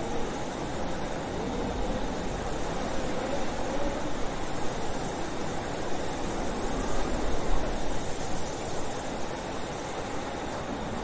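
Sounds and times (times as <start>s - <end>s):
blizzard wind howling: 0.0s - 11.0s.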